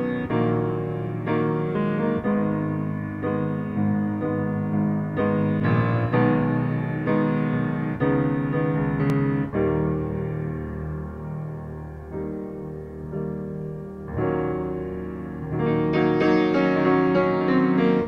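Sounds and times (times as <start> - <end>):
piano playing slow chords: 0.0 - 18.0.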